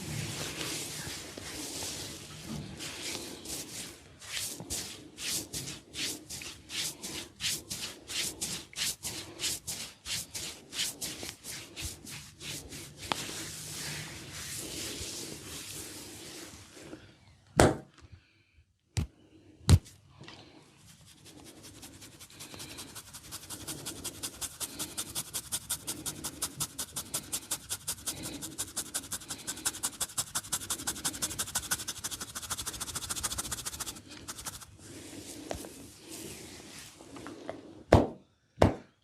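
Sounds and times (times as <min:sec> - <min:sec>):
hand massage strokes on head: 0:00.0 - 0:16.9, 0:20.8 - 0:37.2.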